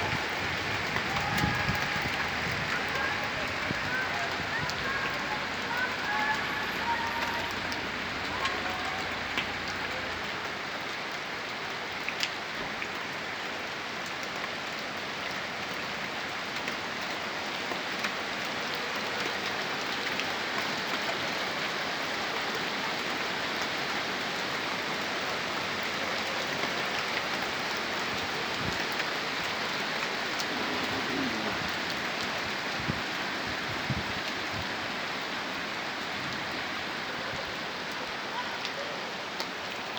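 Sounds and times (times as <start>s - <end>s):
steady rain hiss: 0.0s - 39.9s
raindrop ticks: 0.1s - 34.8s, 39.4s - 39.9s.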